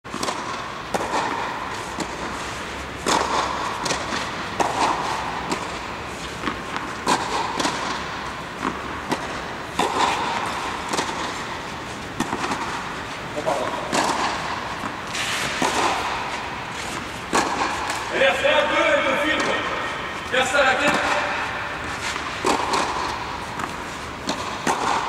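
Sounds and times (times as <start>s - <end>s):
racket hitting tennis ball: 0.1s - 25.0s
tennis ball bouncing: 0.1s - 25.0s.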